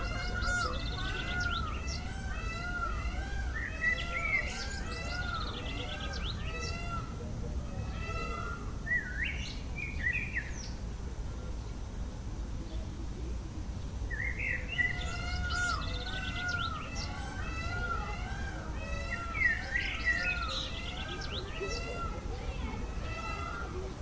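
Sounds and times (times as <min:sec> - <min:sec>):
birds chirping and calling: 0:00.0 - 0:10.8, 0:14.1 - 0:24.0.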